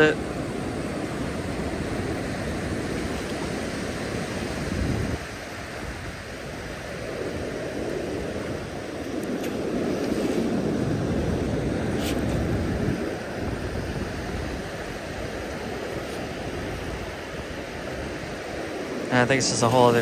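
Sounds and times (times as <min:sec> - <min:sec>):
surf washing over sand: 0:00.0 - 0:20.0
wind on microphone: 0:00.0 - 0:20.0.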